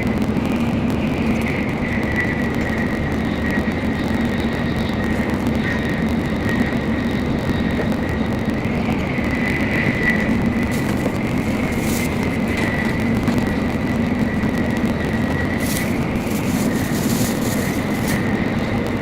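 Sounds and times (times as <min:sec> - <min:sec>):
train running at speed: 0:00.0 - 0:19.0.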